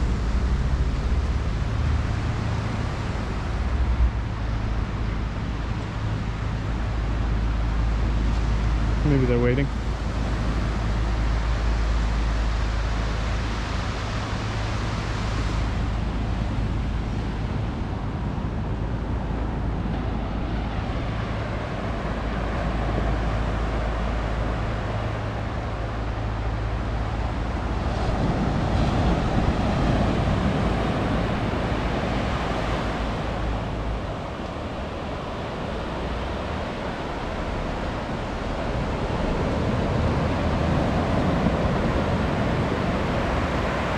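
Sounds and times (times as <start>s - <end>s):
ocean surf breaking: 0.0s - 43.9s
wind rumbling on microphone: 0.0s - 43.9s.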